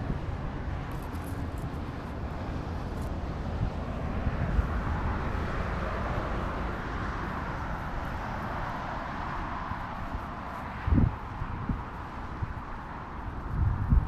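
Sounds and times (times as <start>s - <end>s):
distant engine drone: 0.0s - 14.0s
wind rumbling on microphone: 0.0s - 14.0s.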